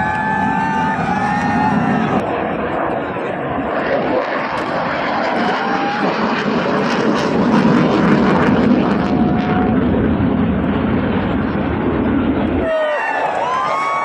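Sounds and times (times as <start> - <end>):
military aircraft flying past: 0.0 - 12.7.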